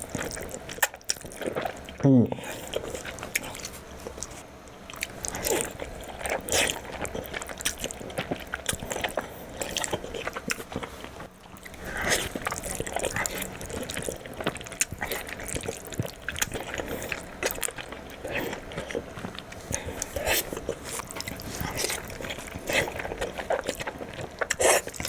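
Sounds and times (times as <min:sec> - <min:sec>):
wet chewing and slurping: 0:00.0 - 0:25.0.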